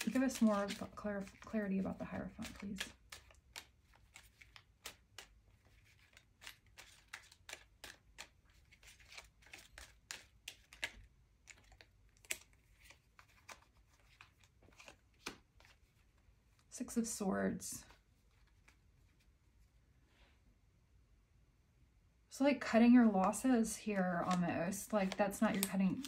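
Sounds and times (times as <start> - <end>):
cards being shuffled: 0.0 - 16.7, 17.8 - 19.3, 23.2 - 26.0.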